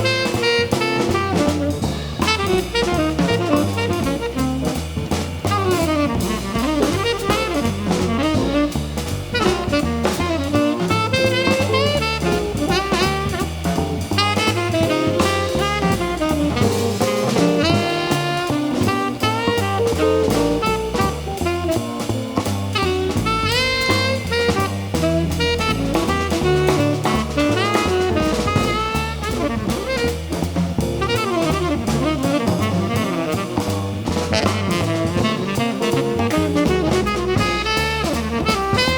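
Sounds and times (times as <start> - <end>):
bass: 0.0 - 38.9
drum kit: 0.0 - 38.9
saxophone playing quick phrases: 0.0 - 38.9.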